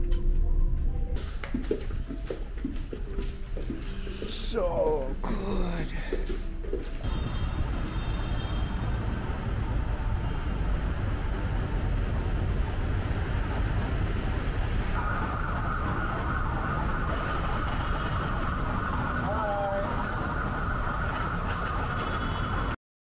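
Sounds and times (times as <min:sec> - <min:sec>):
street traffic rumble: 0:02.4 - 0:22.8.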